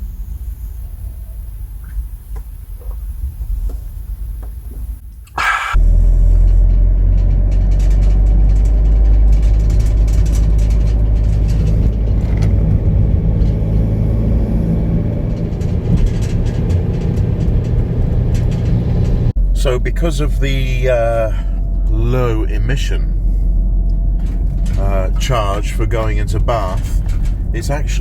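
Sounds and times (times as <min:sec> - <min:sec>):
van engine and road rumble: 0:00.0 - 0:28.0.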